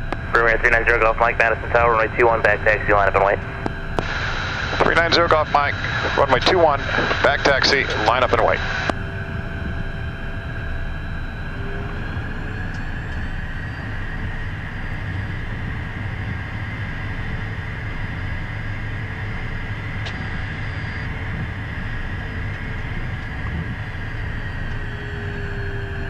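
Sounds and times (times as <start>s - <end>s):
high turbine whine: 0.0s - 26.0s
jet engine noise: 0.0s - 26.0s.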